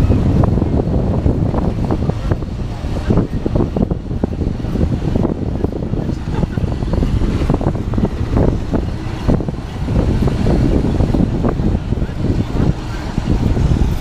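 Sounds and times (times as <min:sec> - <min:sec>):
tram rumbling: 0:00.0 - 0:14.0.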